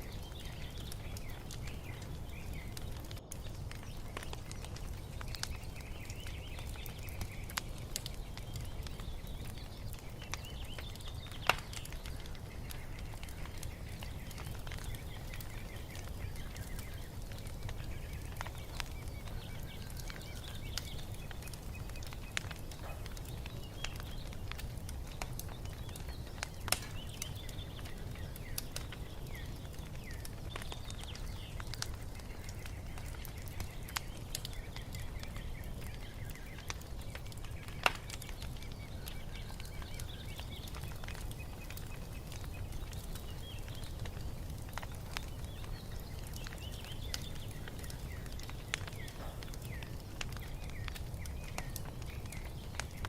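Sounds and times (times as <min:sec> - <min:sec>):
small birds chirping: 0:00.0 - 0:53.0
wood fire crackling: 0:00.0 - 0:53.0.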